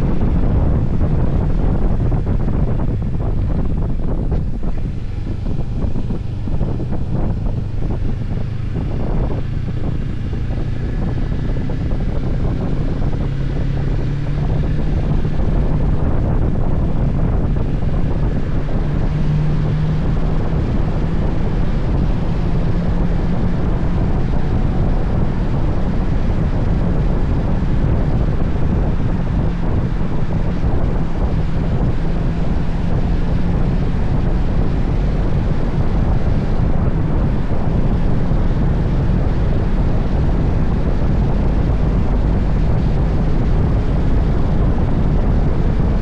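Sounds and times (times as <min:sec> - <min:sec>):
motorcycle engine hum: 0:00.0 - 0:46.0
wind buffeting microphone: 0:00.0 - 0:46.0.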